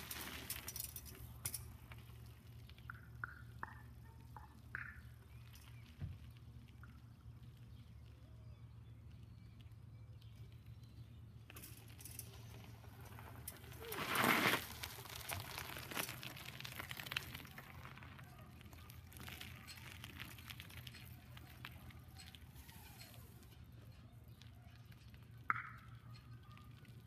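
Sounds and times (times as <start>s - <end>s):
bicycle tyres crunching on gravel: 0.0s - 27.0s.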